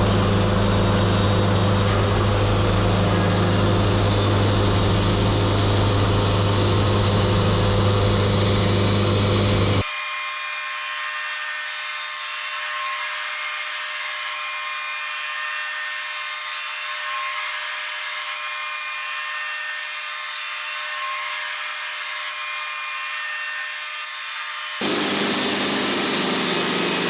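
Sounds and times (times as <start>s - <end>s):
band sawmill cutting log: 0.0s - 27.0s.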